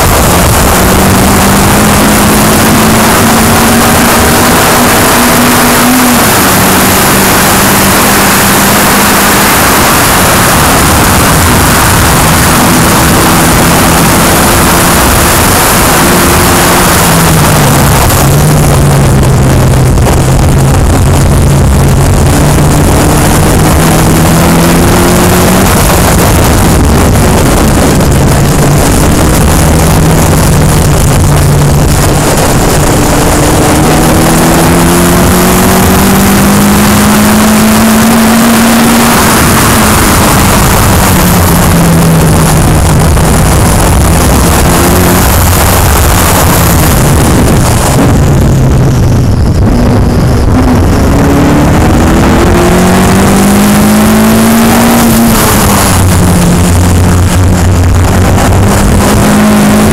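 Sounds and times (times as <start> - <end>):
race car engine accelerating: 0.0 - 59.9
wind rush on microphone: 0.0 - 59.9.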